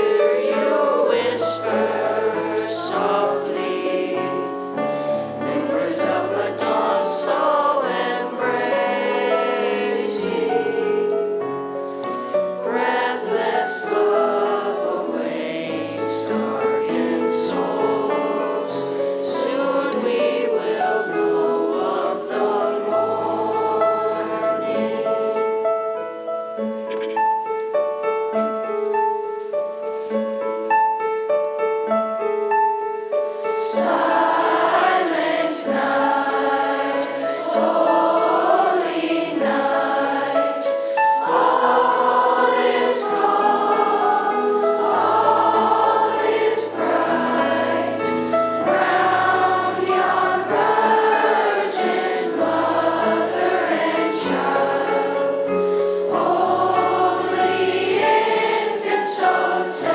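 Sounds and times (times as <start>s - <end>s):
choir singing a slow song: 0.0s - 27.5s, 33.4s - 59.9s
piano accompaniment: 0.0s - 59.9s.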